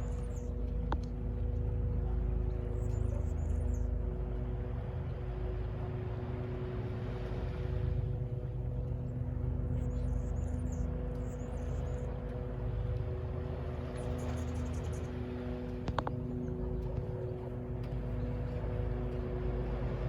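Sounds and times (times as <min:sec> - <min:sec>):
constant low hum: 0:00.0 - 0:20.0.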